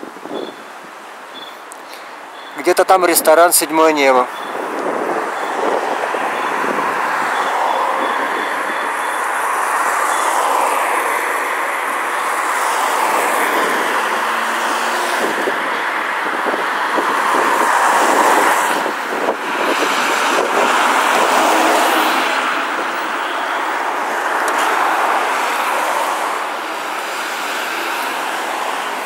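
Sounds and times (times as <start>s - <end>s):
heavy city traffic: 0.0s - 29.0s.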